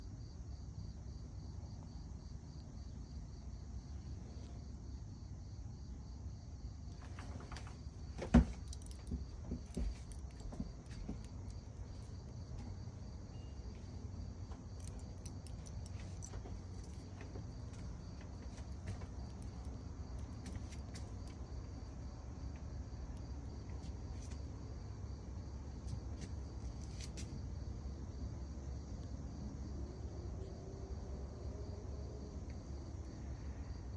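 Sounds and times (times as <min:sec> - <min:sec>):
crickets trilling: 0:00.1 - 0:33.9.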